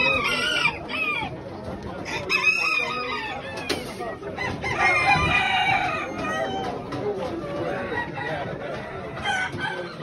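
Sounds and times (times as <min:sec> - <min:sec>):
hens clucking: 0:00.0 - 0:10.0
roosters crowing: 0:00.0 - 0:10.0.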